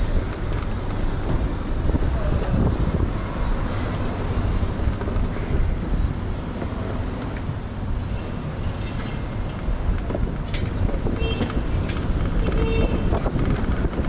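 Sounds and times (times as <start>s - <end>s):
road and traffic noise: 0.0s - 14.0s.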